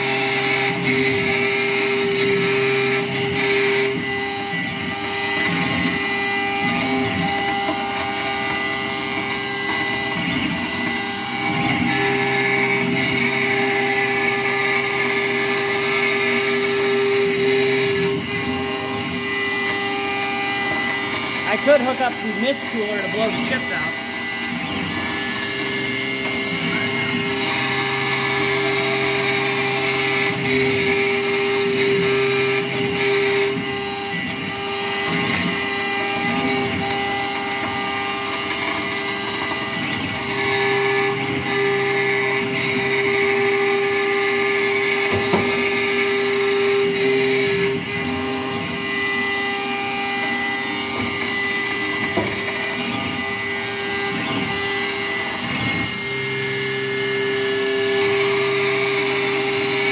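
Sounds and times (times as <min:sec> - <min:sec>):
cnc mill machining whine: 0:00.0 - 0:59.9.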